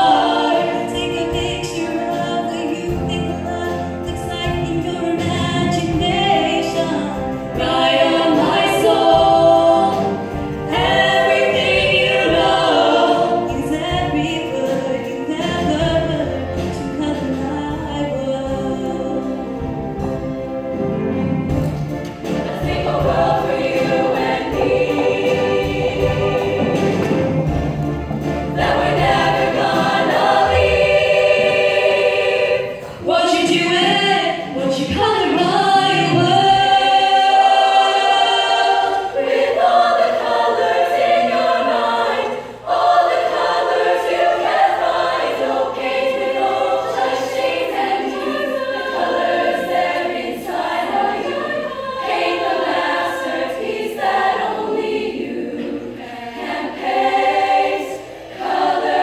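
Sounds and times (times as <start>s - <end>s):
girls' choir singing in harmony: 0.0s - 59.0s.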